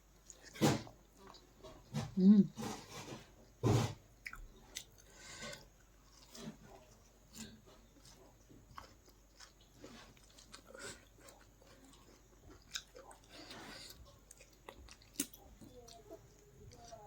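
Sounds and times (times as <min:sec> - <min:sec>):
person chewing food: 0:00.1 - 0:17.0.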